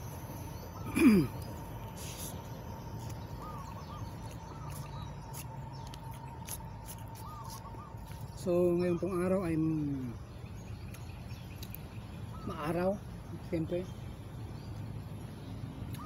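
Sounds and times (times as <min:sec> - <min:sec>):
faint bird chirps: 0:00.0 - 0:16.0
steady background hum: 0:00.0 - 0:16.0.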